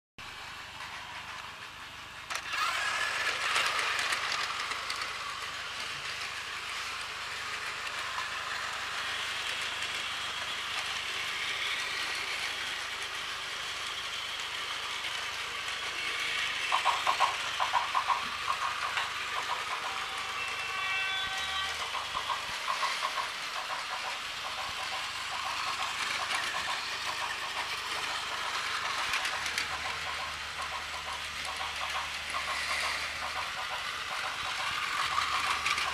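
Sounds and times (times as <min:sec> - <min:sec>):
toy train motors whirring: 0:00.3 - 0:35.9.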